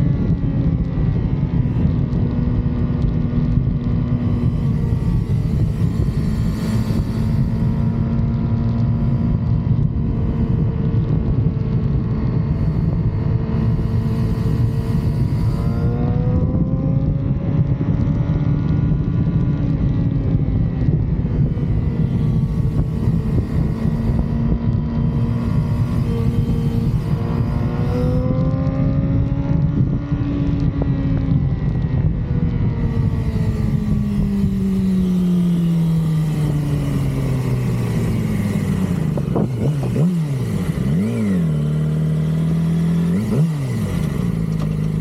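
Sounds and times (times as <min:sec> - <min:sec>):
motorcycle engine cruising: 0:00.0 - 0:45.0
wind rumble: 0:00.0 - 0:45.0.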